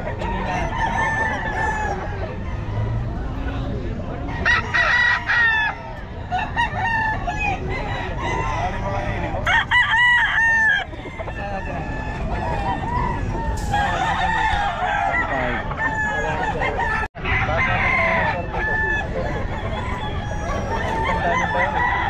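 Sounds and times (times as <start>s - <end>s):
roosters crowing: 0.0s - 22.0s.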